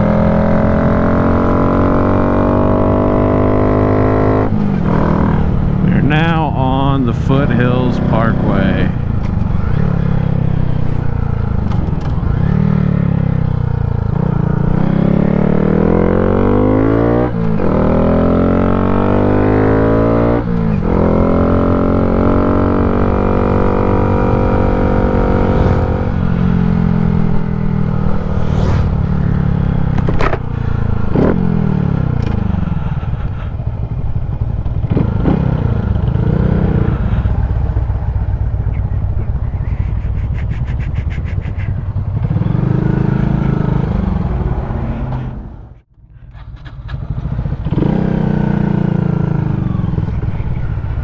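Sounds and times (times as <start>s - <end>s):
motorcycle engine shifting gears: 0.0s - 40.2s, 41.6s - 51.0s.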